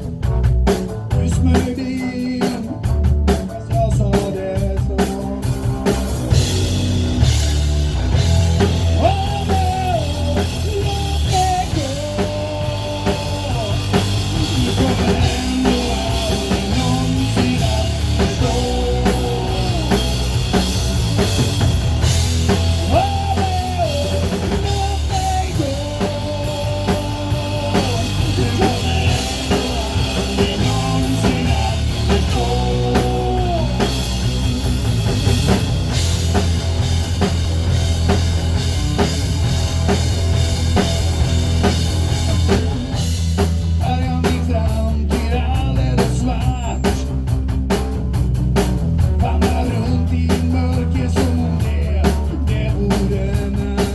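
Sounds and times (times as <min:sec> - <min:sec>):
rock band music: 0:00.0 - 0:53.9.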